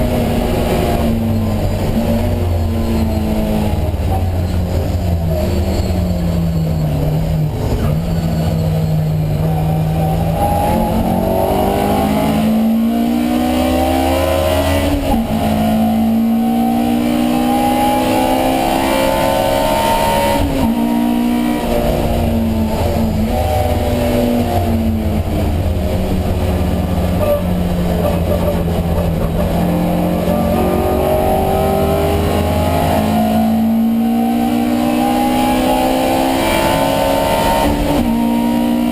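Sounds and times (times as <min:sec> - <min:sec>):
racing engine accelerating: 0:00.0 - 0:38.9.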